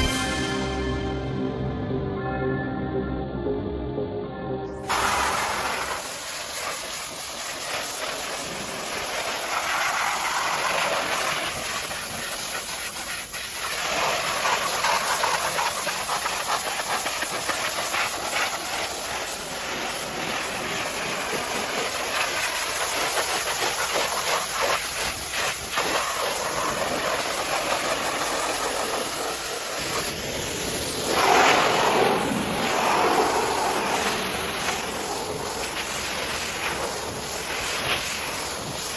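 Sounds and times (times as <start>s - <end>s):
pressure washer spray hissing: 4.8s - 38.9s.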